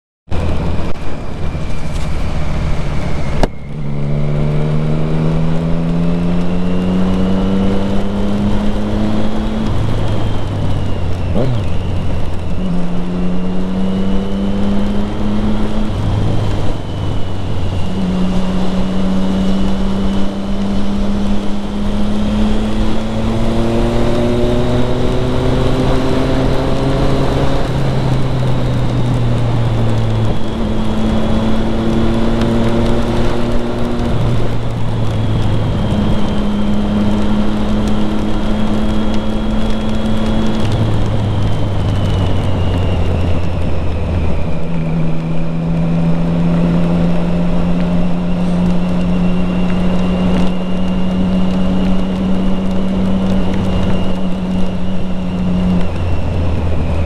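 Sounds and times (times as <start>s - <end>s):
motorcycle engine running: 0.3s - 57.0s
tyres on wet road: 0.3s - 57.0s.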